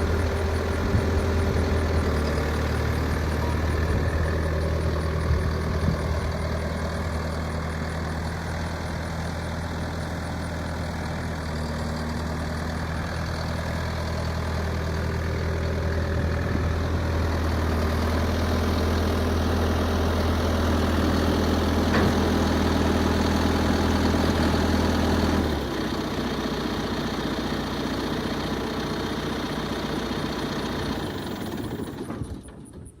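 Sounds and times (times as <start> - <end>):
tractor diesel engine idling: 0.0 - 32.8.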